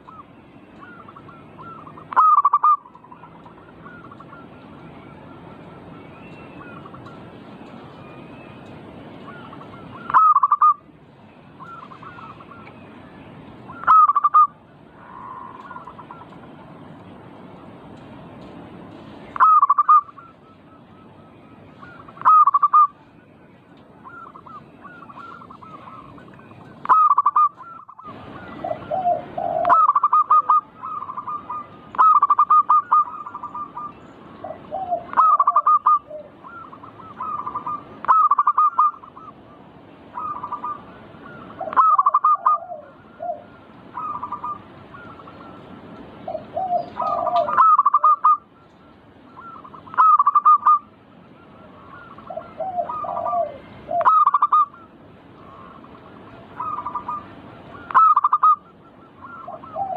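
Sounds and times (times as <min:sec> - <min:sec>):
dove cooing: 0:00.0 - 0:07.4, 0:09.2 - 0:10.9, 0:11.6 - 0:12.8, 0:13.7 - 0:16.8, 0:19.2 - 0:23.0, 0:24.0 - 0:59.9.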